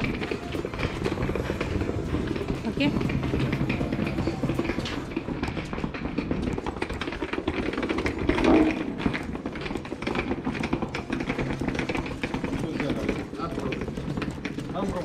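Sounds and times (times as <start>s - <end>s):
suitcase wheels rattling on bricks: 0.0s - 15.0s.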